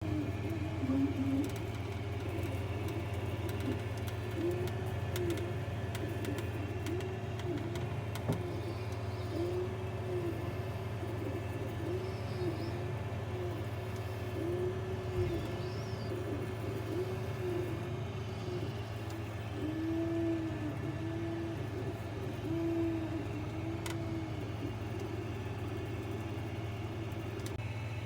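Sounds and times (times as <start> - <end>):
printer motor whine: 0.0 - 28.0.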